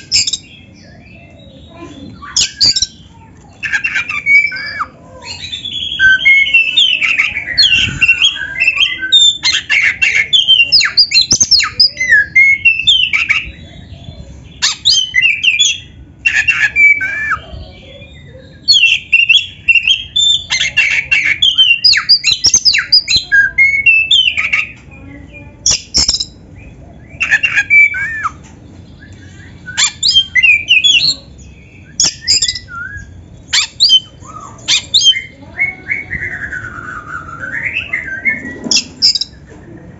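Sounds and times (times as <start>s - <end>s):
magpie-robin singing: 0.0s - 39.5s.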